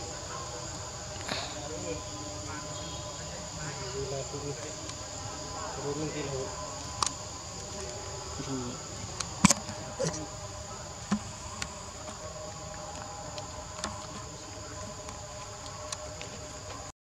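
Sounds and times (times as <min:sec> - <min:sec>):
high-pitched insect drone: 0:00.0 - 0:16.9.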